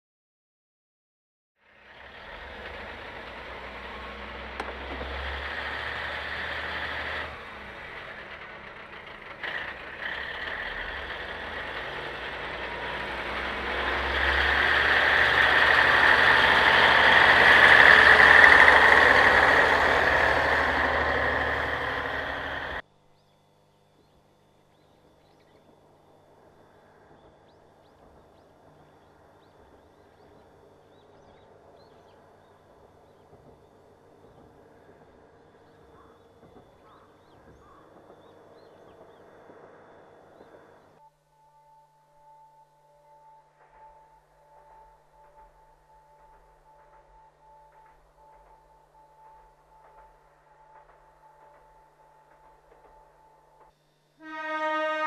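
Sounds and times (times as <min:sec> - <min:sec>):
railcar diesel engine running: 0:01.6 - 0:55.0
faint distant hum: 0:02.7 - 0:55.0.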